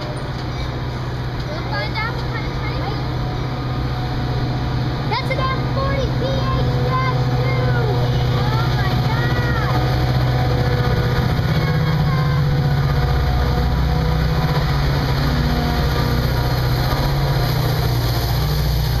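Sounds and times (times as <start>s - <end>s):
diesel locomotive drone: 0.0s - 19.0s
train cars rolling over rails: 0.0s - 19.0s.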